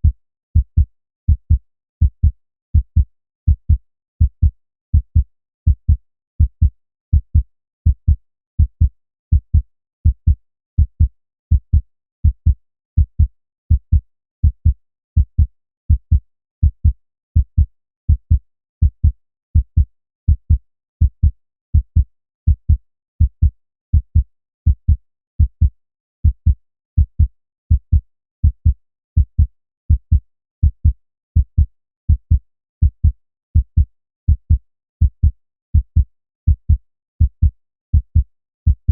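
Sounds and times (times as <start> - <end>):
heartbeat thumping: 0.6 - 24.2, 24.8 - 38.9.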